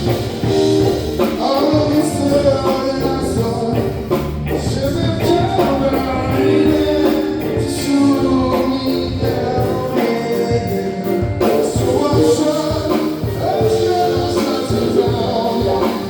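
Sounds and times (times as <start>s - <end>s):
live band playing: 0.0s - 16.0s
person singing: 0.0s - 16.0s.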